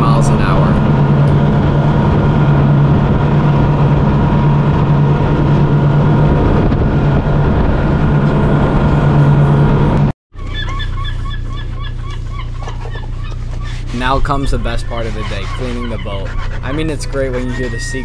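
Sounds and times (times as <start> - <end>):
outboard motors droning: 0.0 - 18.0.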